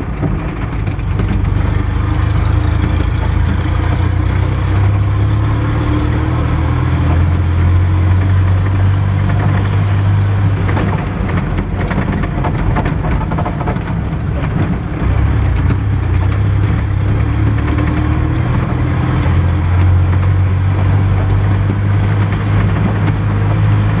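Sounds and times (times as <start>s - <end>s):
tyres on cobblestones: 0.0s - 24.0s
vehicle engine humming: 0.0s - 24.0s.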